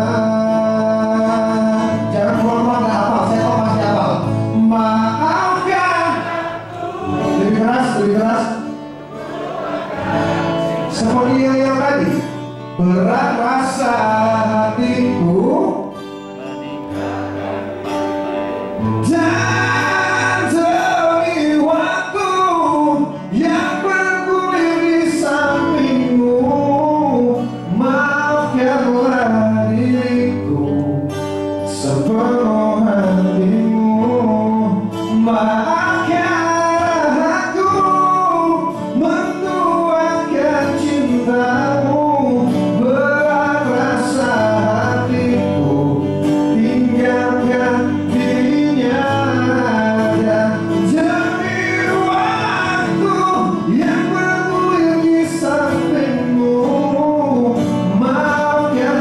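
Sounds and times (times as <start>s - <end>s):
man singing pop song: 0.0s - 8.8s, 10.0s - 17.0s, 18.8s - 59.0s.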